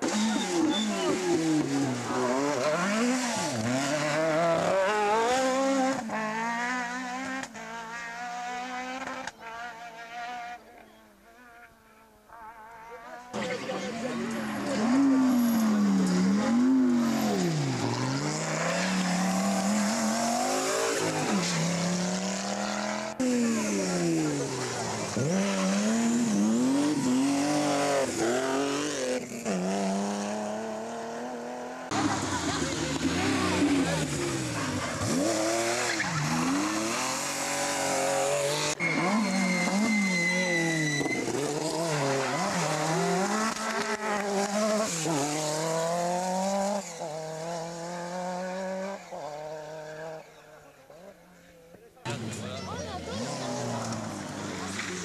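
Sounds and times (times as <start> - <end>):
rally car engine revving: 0.0 - 51.2, 52.0 - 55.0.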